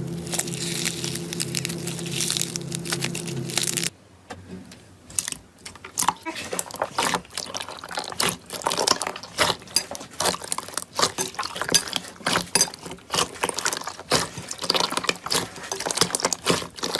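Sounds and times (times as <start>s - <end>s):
slime squelching: 0.0s - 3.9s, 5.1s - 16.9s.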